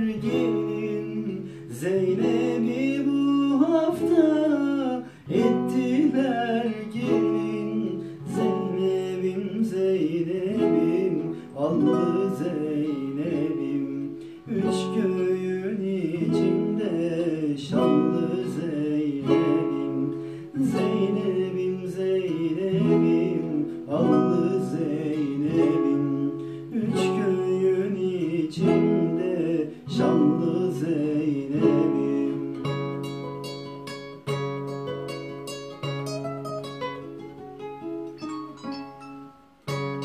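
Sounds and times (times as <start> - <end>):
man singing: 0.0 - 37.2
classical guitar strumming: 0.0 - 40.0.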